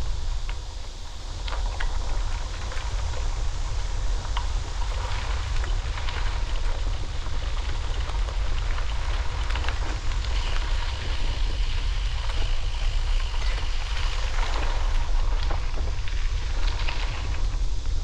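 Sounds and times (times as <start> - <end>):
steady crackling hiss: 0.0 - 18.0
wind rumbling on microphone: 0.0 - 18.0.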